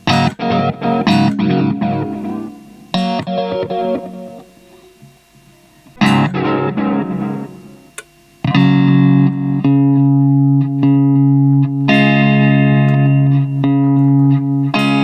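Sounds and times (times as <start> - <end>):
electric guitar chords with delay: 0.0 - 5.1, 5.9 - 15.0.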